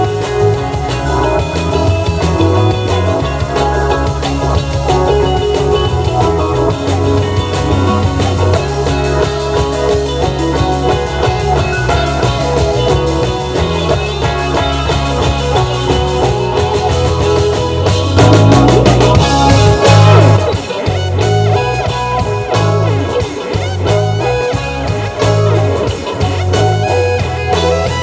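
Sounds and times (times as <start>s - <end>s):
bass line: 0.0s - 28.0s
drum beat: 0.0s - 28.0s
electric guitar: 0.0s - 28.0s.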